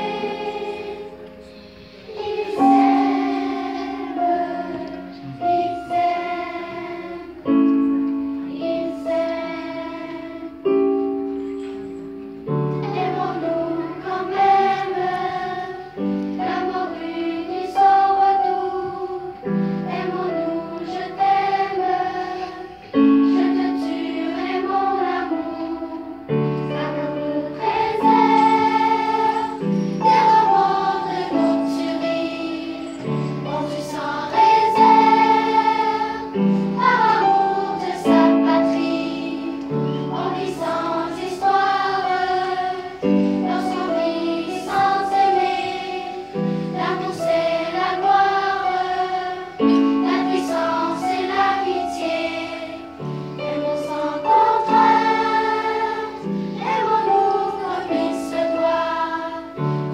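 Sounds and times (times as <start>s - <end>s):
children's choir singing: 0.0s - 59.9s
digital piano chords: 0.0s - 59.9s.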